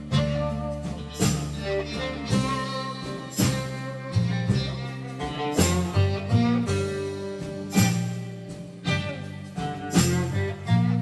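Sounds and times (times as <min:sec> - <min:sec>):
background music with strong beat: 0:00.0 - 0:11.0.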